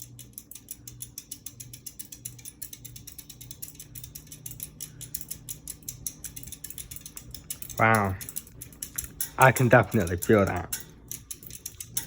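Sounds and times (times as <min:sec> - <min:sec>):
ceiling fan clicking: 0:00.0 - 0:12.0
ceiling fan low hum: 0:00.0 - 0:12.0.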